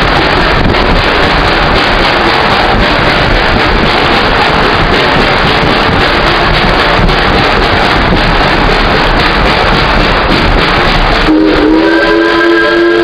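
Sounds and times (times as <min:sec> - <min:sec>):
wind buffeting microphone: 0:00.0 - 0:12.0
music: 0:00.0 - 0:13.0
train car rumbling and rattling: 0:00.0 - 0:13.0.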